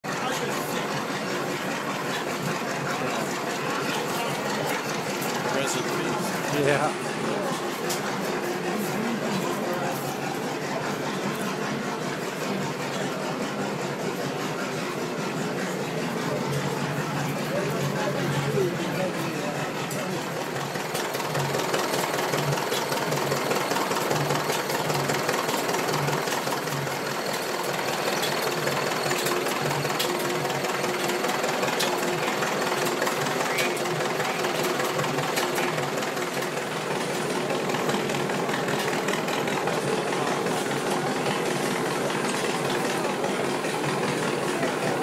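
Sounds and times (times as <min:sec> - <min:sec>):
stationary engine knocking: 0:00.0 - 0:45.0.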